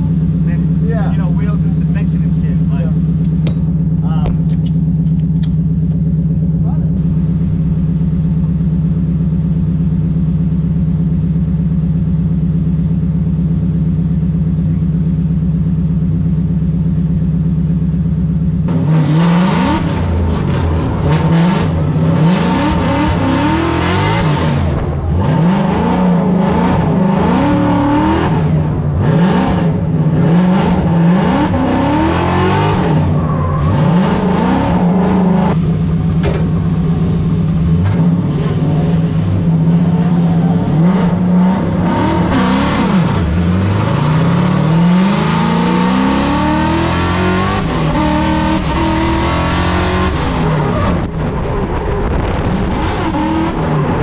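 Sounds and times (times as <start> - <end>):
car engine revving: 0.0 - 12.8, 16.7 - 54.0.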